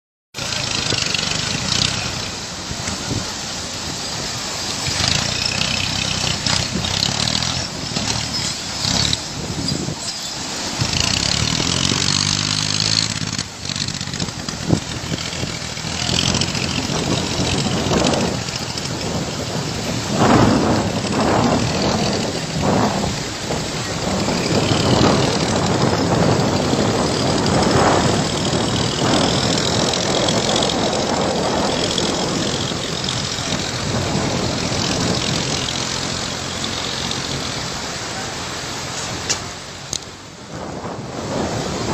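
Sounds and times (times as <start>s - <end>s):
vehicle engine revving: 0.4s - 40.0s
steady rushing noise: 0.4s - 41.9s.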